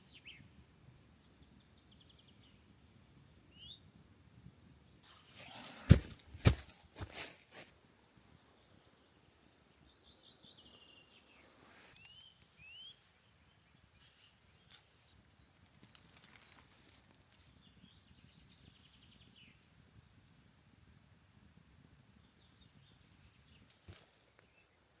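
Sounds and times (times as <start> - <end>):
faint birdsong trills: 0.0 - 20.6, 21.9 - 25.0.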